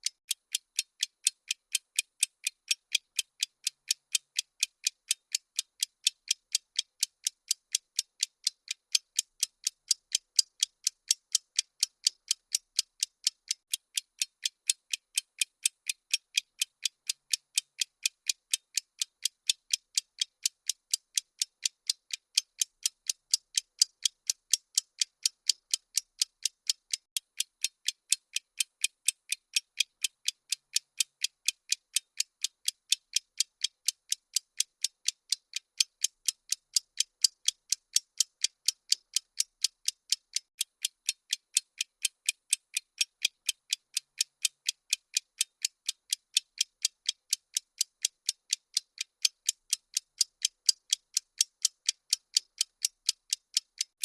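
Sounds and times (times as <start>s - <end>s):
timer ticking: 0.0s - 54.0s.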